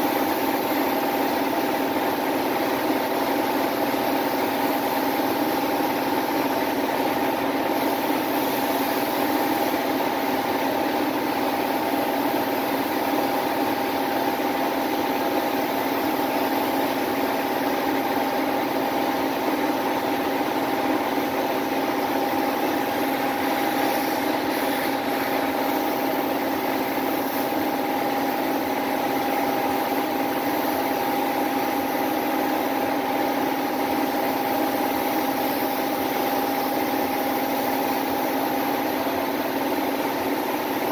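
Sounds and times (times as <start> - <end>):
spray gun hissing: 0.0 - 18.0, 19.5 - 40.9.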